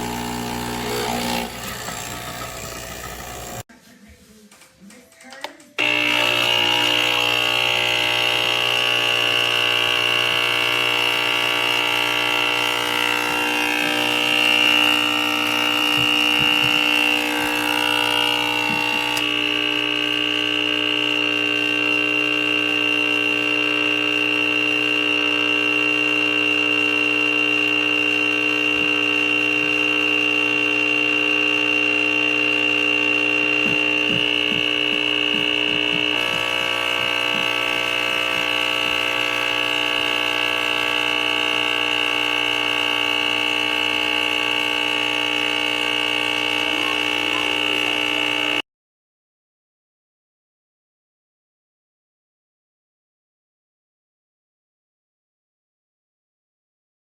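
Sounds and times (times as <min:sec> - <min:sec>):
electric motor buzzing hum: 0:00.0 - 0:03.7, 0:05.8 - 0:48.6.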